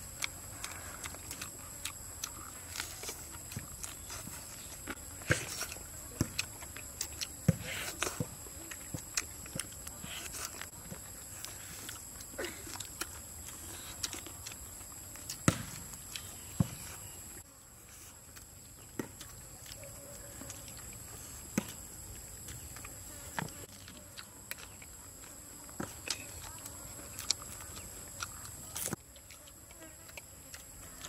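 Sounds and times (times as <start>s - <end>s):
chewing and mouth smacks: 0.0s - 17.4s, 18.0s - 31.0s.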